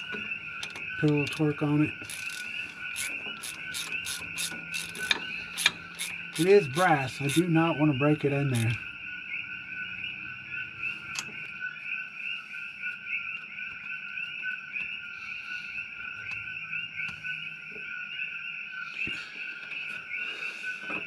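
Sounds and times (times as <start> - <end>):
fast pulsing chirps: 0.0 - 20.8.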